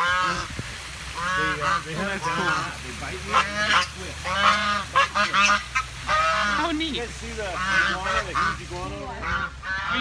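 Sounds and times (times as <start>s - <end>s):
geese honking: 0.0s - 0.5s, 1.1s - 10.0s.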